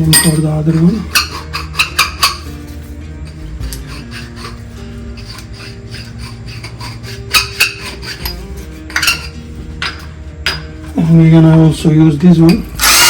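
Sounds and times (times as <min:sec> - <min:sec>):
background music: 0:00.0 - 0:13.0
metal pipe being scrubbed: 0:00.1 - 0:10.6.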